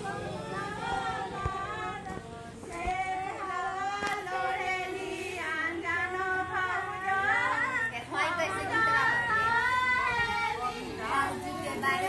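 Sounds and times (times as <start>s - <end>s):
women singing folk song: 0.0s - 12.0s.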